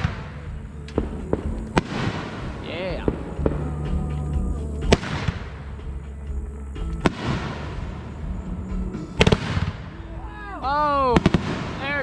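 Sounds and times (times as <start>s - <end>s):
firework bangs: 0.0s - 6.2s, 6.9s - 12.0s
firework hiss and crackle: 0.0s - 12.0s.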